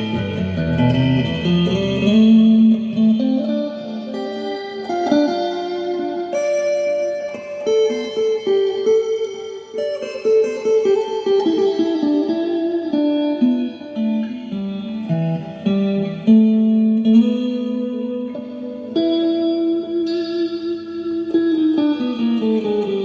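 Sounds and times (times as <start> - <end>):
guitar playing single-note line: 0.0 - 23.0.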